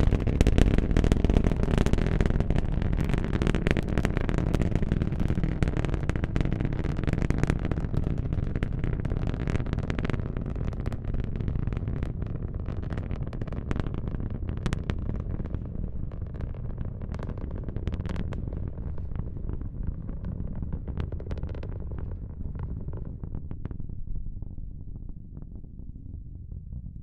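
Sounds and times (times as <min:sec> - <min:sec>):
rocket engines rumbling and crackling: 0:00.0 - 0:27.0.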